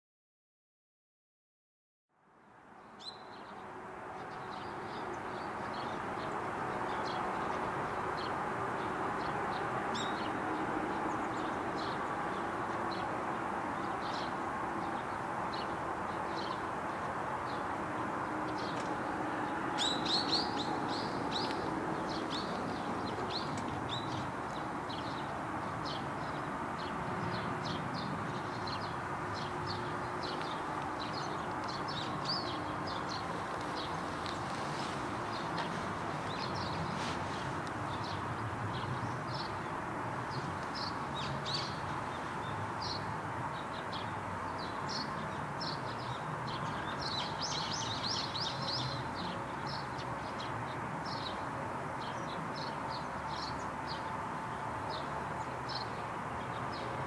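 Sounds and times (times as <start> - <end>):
small birds chirping: 2.8 - 3.6, 4.2 - 51.4.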